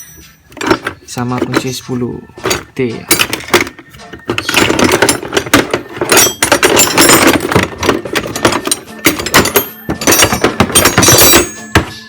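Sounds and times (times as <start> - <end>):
metal tools clattering in toolbox: 0.0 - 12.0.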